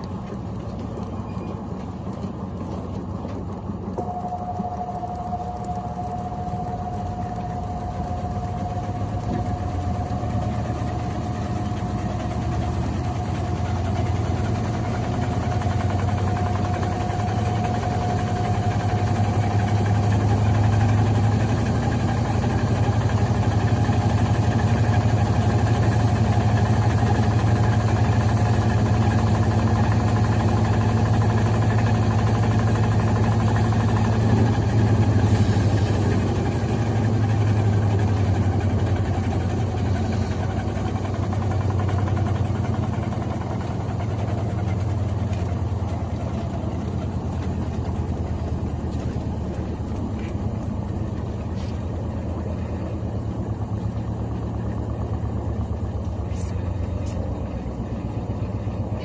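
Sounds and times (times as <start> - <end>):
faint whine: 0.0 - 59.0
washing machine motor hum: 0.0 - 59.0.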